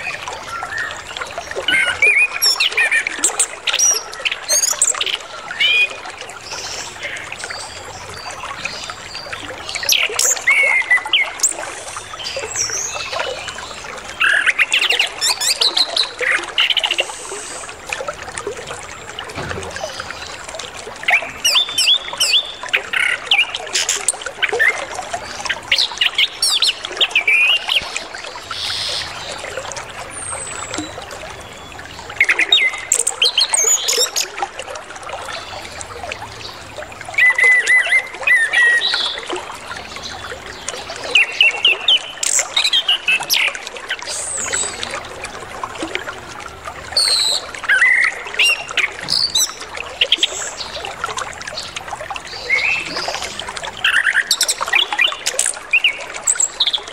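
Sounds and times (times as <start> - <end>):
running water trickling: 0.0 - 56.9.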